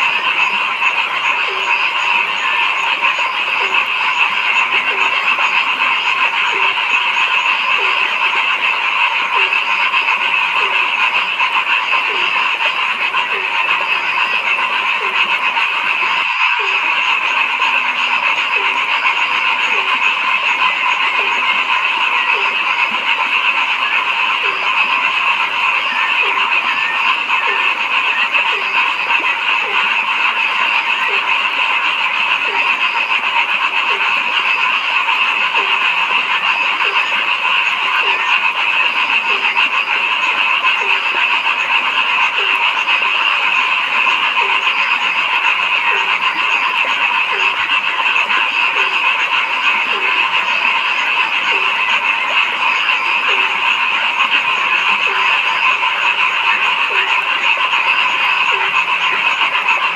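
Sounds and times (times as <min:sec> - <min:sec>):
chorus of frogs croaking: 0:00.0 - 0:59.9
low frog croak: 0:00.0 - 0:59.9.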